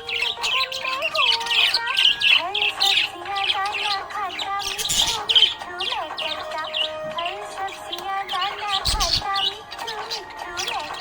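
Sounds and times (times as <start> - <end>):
budgerigar chirping: 0.0 - 11.0
budgerigar squawk: 0.0 - 11.0.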